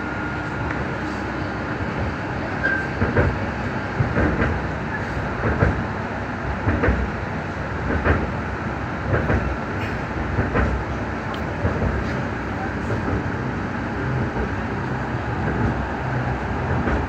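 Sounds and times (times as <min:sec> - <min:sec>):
train rolling rumble: 0:00.0 - 0:17.0.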